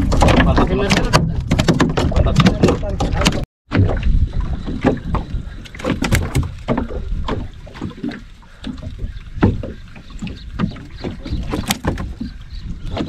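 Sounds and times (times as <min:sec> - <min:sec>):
low wind rumble on microphone: 0:00.0 - 0:13.0
water slapping against boat hull: 0:00.0 - 0:13.0.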